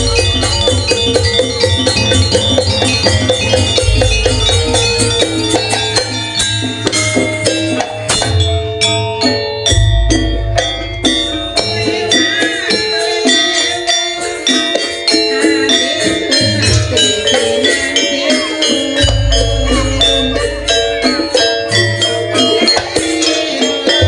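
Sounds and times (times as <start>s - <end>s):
drums playing: 0.0s - 24.0s
rattling percussion: 0.0s - 24.0s
struck pitched percussion: 0.0s - 24.0s.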